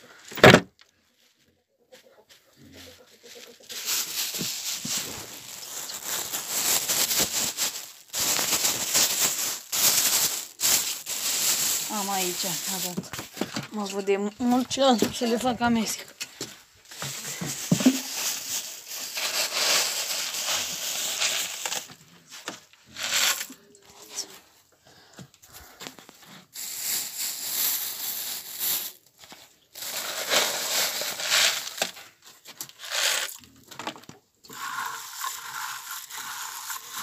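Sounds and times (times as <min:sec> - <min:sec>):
rustling and crumpling handling: 0:01.2 - 0:24.6, 0:25.3 - 0:37.0.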